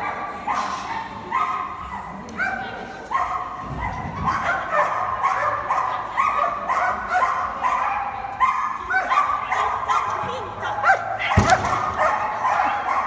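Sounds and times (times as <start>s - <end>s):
dog barking excitedly: 2.4s - 13.0s.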